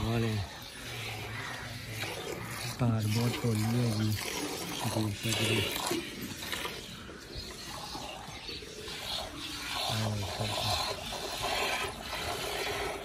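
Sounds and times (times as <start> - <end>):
milk squirting: 0.0 - 13.0.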